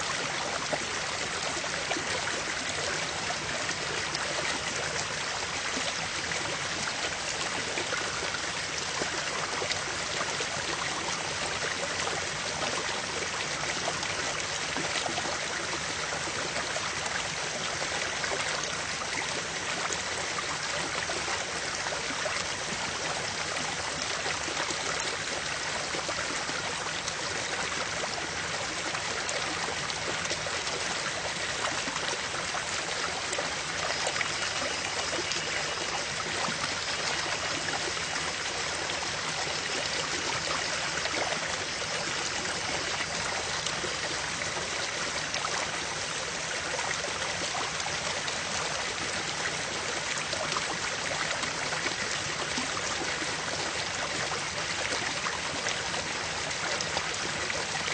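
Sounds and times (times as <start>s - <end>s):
river water flowing: 0.0s - 57.9s.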